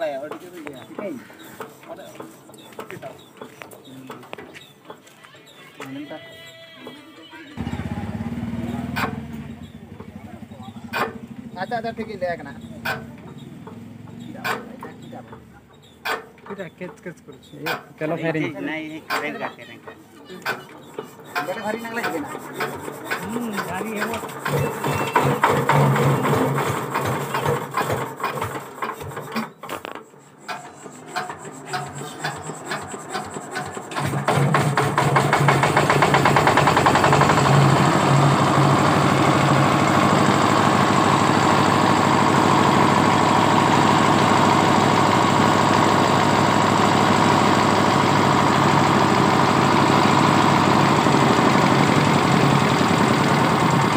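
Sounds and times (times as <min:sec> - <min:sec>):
hand-crank diesel engine: 0:00.0 - 0:53.9.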